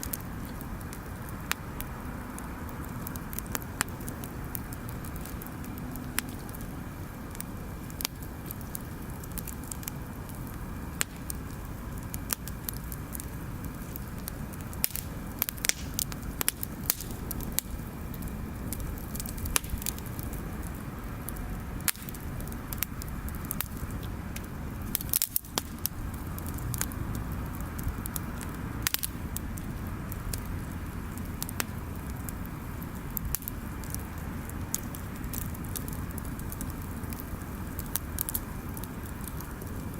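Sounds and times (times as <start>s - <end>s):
bonfire crackling and popping: 0.0s - 39.9s
low fire rumble: 0.0s - 39.9s.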